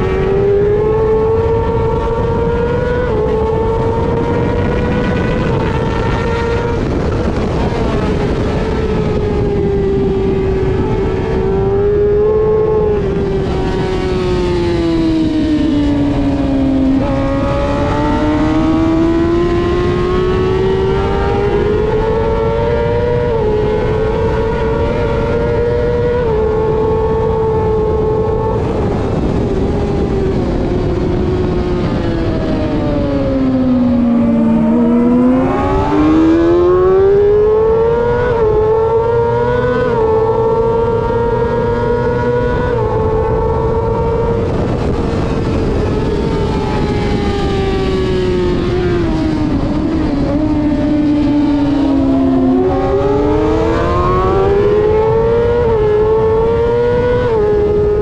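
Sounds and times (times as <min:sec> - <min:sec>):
racing motorcycle engine: 0:00.0 - 0:58.0
wind rush: 0:00.0 - 0:58.0.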